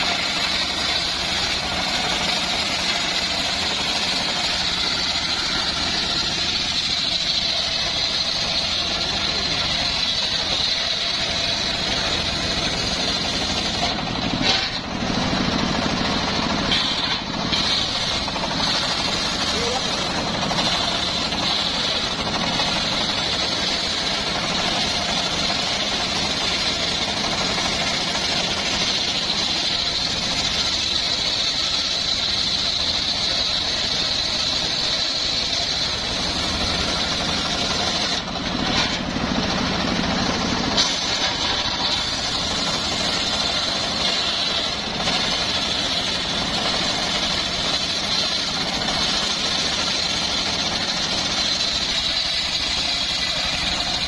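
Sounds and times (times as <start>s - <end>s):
circular saw blade cutting wood: 0.0s - 54.0s
engine running: 0.0s - 54.0s.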